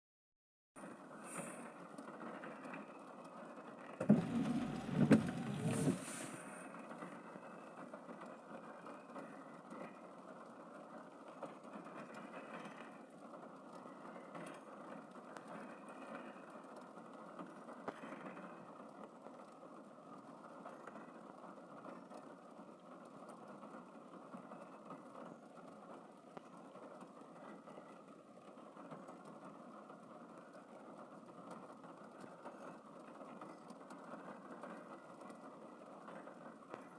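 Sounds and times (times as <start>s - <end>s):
steady rain falling: 2.0s - 36.9s.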